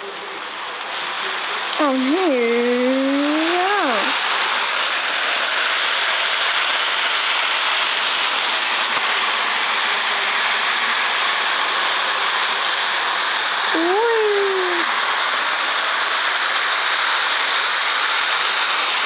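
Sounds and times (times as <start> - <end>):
toy train running on track: 0.0 - 19.0.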